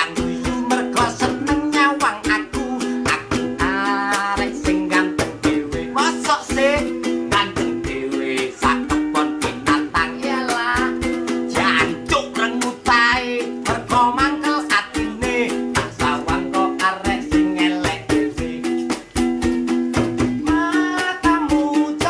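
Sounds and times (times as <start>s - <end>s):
man singing: 0.0s - 19.0s, 20.2s - 22.0s
ukulele strumming: 0.0s - 22.0s.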